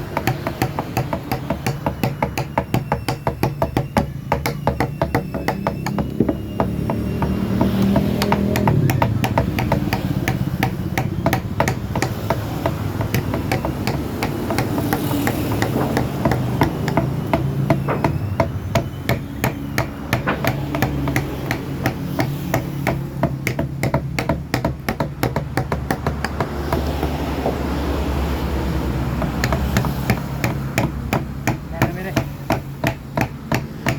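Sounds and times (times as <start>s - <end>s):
mallet tapping chisel into wood: 0.0s - 27.8s, 29.0s - 33.9s.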